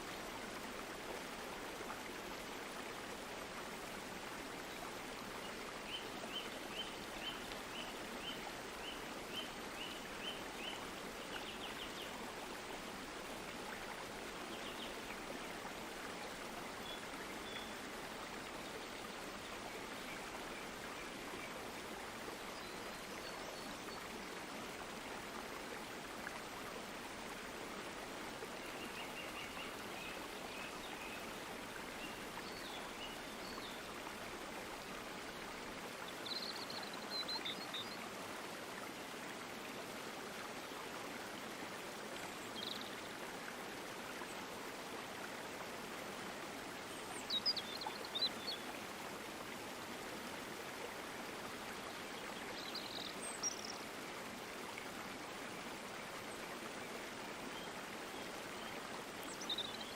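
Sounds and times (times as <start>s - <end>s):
stream of water flowing: 0.0s - 59.9s.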